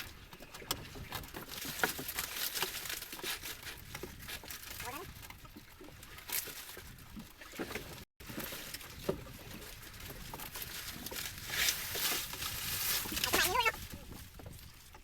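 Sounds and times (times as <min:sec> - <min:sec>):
water noise: 0:00.0 - 0:15.0
wind: 0:00.0 - 0:15.0.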